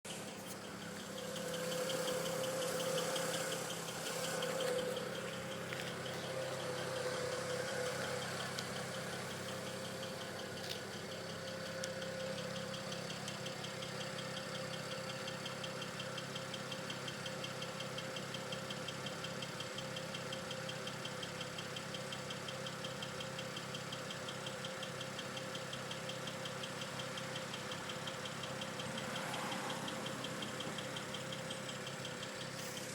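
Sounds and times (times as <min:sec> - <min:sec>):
car engine idling: 0:00.0 - 0:32.9
rapid even engine ticking: 0:00.0 - 0:32.9.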